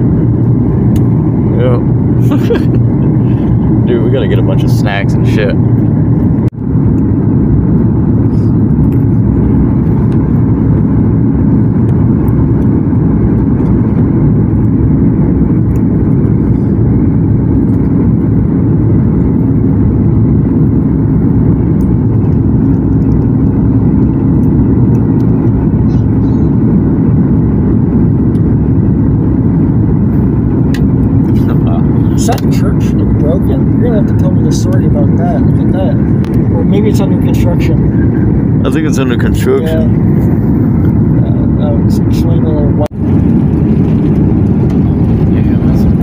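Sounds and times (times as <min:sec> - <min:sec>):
faint steady hum: 0:00.0 - 0:46.0
jet engine and airflow noise: 0:00.0 - 0:46.0.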